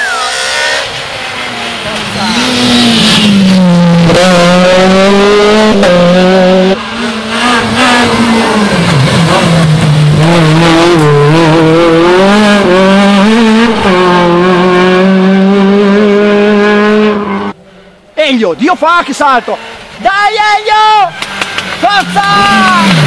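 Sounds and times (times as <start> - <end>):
rally car engine revving: 0.0 - 17.6, 19.1 - 20.0, 21.1 - 23.0.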